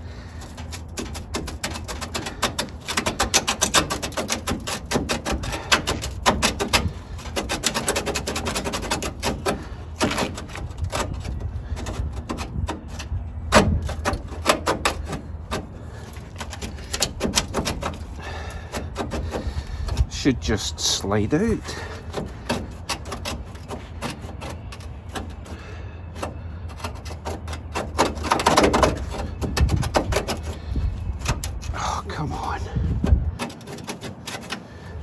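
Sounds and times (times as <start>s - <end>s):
metal tapping and rattling: 0.0s - 31.7s, 32.4s - 35.0s.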